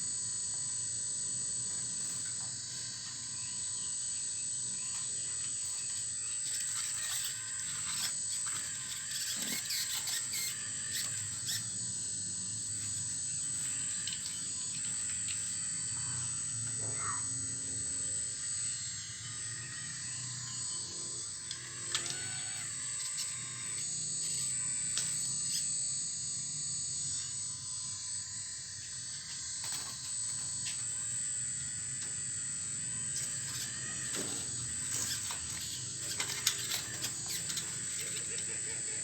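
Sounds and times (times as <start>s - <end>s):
hydraulic pump whine and hum: 0.0s - 39.0s.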